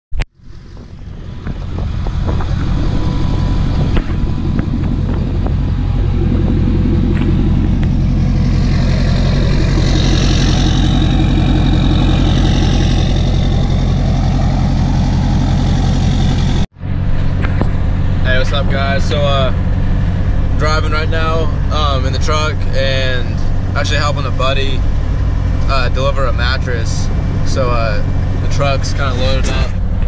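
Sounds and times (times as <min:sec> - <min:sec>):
pickup engine idling: 0:00.4 - 0:30.0.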